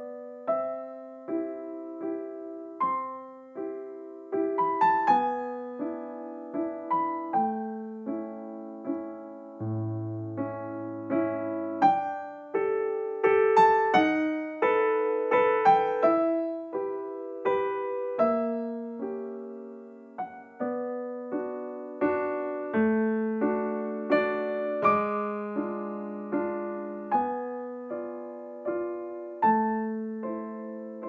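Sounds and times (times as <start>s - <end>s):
slow gentle piano melody: 0.0s - 31.0s.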